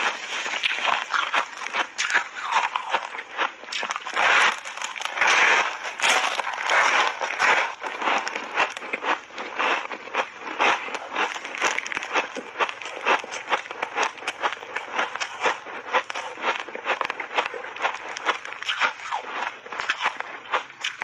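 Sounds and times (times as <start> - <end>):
ice crunching while chewed: 0.0 - 21.0.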